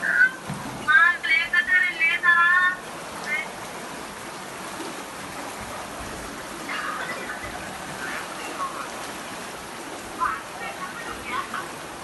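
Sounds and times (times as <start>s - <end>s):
fast-flowing floodwater: 0.0s - 12.0s.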